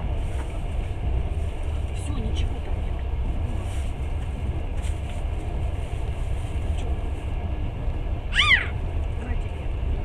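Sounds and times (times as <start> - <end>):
train rumbling along track: 0.0 - 10.0.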